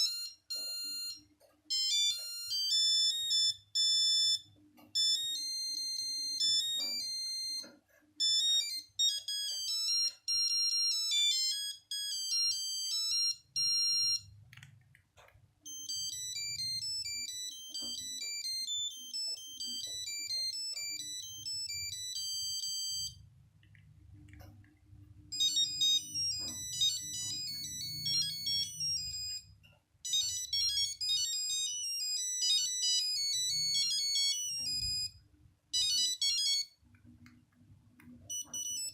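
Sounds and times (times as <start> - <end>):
monophonic phone ringtone melodies: 0.0 - 14.5, 15.6 - 23.4, 25.2 - 36.9, 38.0 - 38.9.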